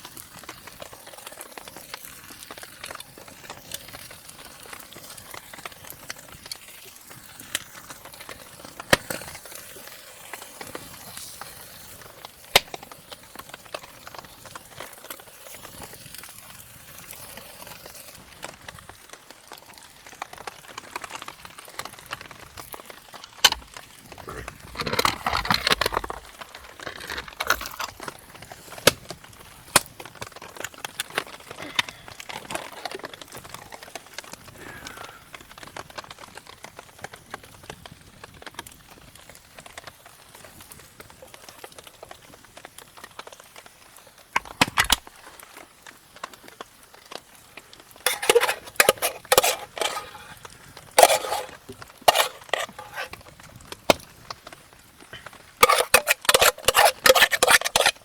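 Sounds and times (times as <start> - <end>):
campfire crackling and popping: 0.0 - 58.0
rustling crackle: 0.0 - 58.0.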